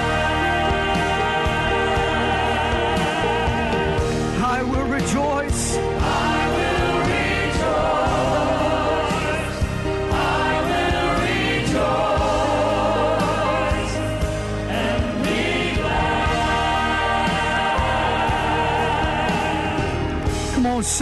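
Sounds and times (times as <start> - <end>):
congregation and choir singing hymn: 0.0 - 4.4, 5.5 - 20.4
band accompaniment: 0.0 - 21.0.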